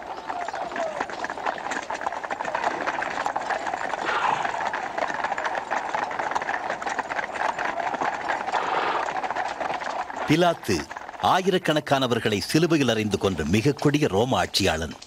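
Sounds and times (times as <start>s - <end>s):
crowd footsteps on stone: 0.0s - 15.0s
horse hooves clopping: 0.0s - 15.0s.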